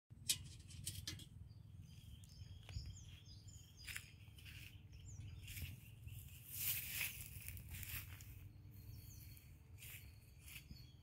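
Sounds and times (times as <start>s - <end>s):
birds chirping faintly: 0.2s - 11.0s.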